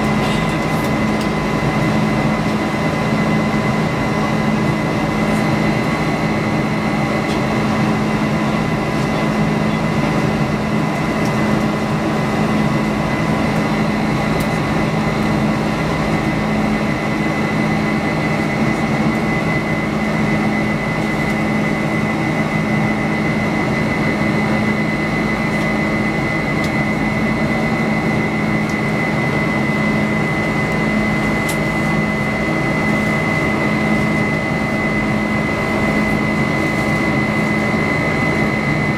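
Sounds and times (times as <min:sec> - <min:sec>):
airplane cabin engine drone: 0:00.0 - 0:38.9
high jet whine: 0:00.0 - 0:38.9.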